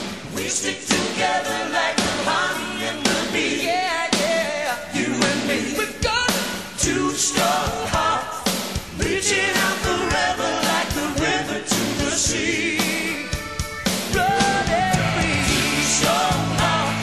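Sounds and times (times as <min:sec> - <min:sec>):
pop song singing voice: 0:00.0 - 0:17.0.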